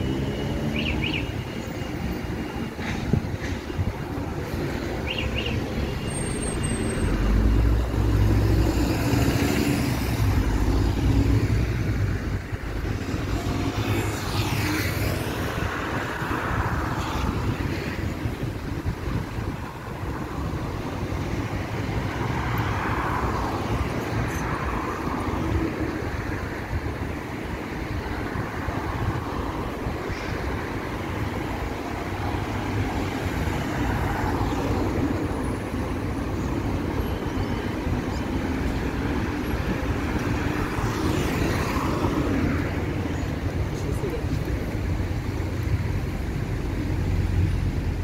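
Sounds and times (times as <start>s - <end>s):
cars passing close by: 0.0s - 48.0s
road traffic hum: 0.0s - 48.0s.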